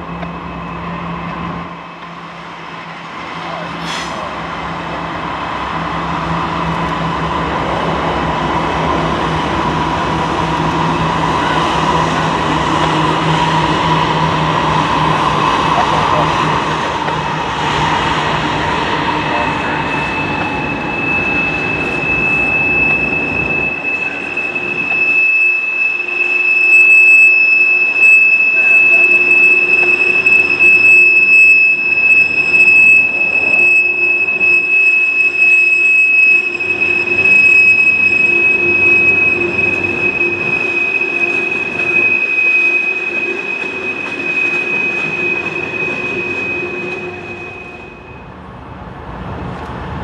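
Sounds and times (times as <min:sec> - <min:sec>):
train wheels squealing on rail: 0:00.0 - 0:48.4
lower steady squeal: 0:00.0 - 0:48.7
diesel locomotive engines rumbling: 0:00.0 - 0:50.0
steady engine whine: 0:00.0 - 0:50.0.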